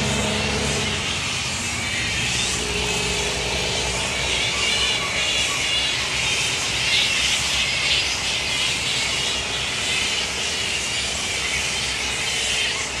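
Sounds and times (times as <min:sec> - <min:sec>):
flying foxes squabbling calls: 0:00.1 - 0:13.0.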